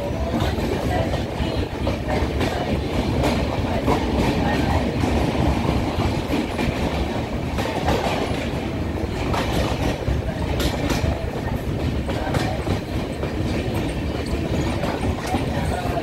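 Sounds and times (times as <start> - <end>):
train rumbling inside coach: 0.0 - 16.0.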